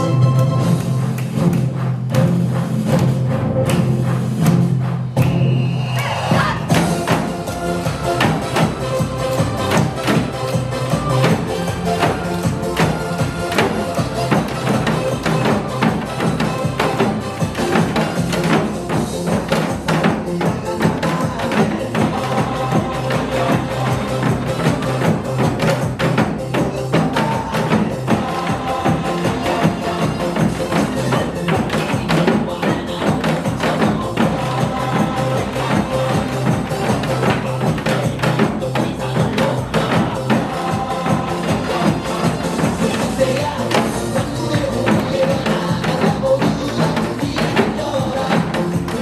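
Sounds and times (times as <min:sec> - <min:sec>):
song music with held notes: 0:00.0 - 0:05.4, 0:06.6 - 0:49.0
hourglass drum sharp beats: 0:00.0 - 0:49.0.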